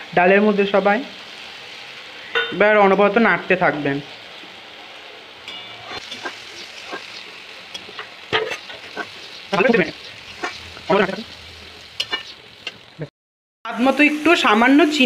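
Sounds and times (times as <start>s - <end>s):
stew bubbling and sizzling in a pan: 0.0s - 13.1s.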